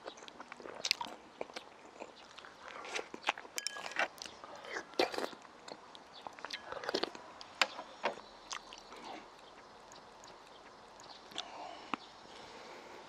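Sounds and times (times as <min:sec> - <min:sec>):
person chewing food: 0:00.0 - 0:12.7.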